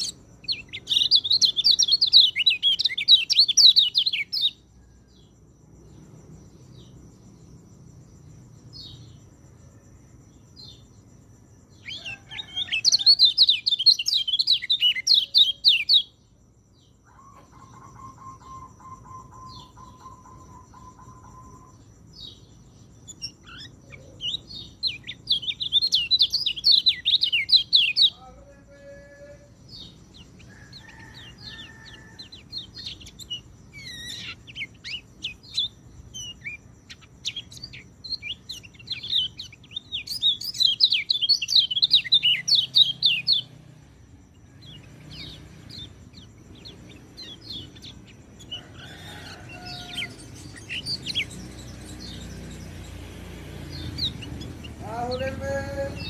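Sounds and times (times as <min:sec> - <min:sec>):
songbird singing rapid high notes: 0:00.0 - 0:04.6, 0:11.8 - 0:16.3, 0:17.1 - 0:43.6, 0:44.4 - 0:56.0.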